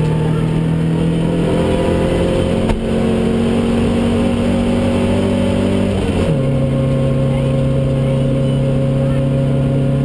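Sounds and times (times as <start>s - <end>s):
rally car engine running hard: 0.0s - 10.0s.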